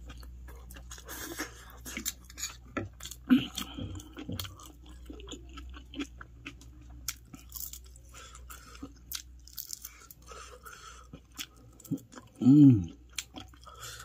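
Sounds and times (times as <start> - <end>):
chewing and biting: 0.0 - 13.8
steady low hum: 0.0 - 14.0.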